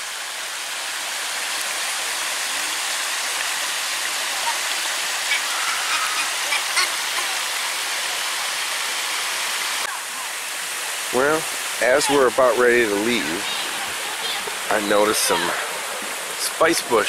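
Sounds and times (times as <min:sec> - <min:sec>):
small waterfall pouring: 0:00.0 - 0:17.0.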